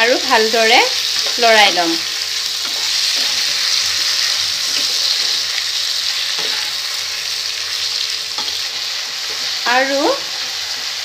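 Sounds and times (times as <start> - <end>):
vegetables sizzling in oil: 0.0 - 11.0
spatula stirring in pan: 1.0 - 11.0.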